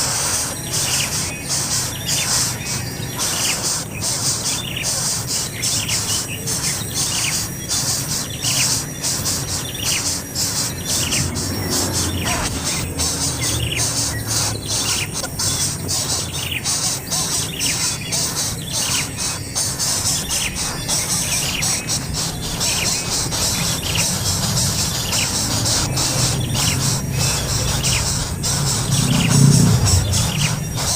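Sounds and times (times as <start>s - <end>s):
bird chirping: 0.0s - 30.9s
high buzzing hiss: 0.0s - 30.9s.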